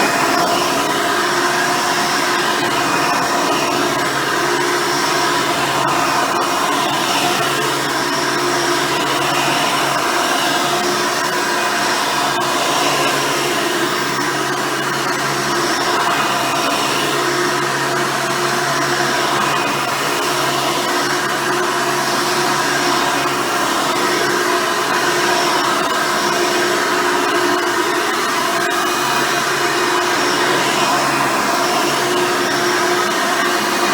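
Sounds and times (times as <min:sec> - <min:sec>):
vacuum cleaner whine: 0:00.0 - 0:33.9.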